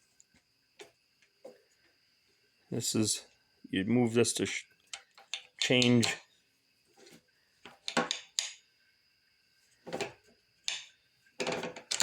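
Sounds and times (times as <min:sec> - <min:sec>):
faint steady high whine: 0:00.0 - 0:12.0.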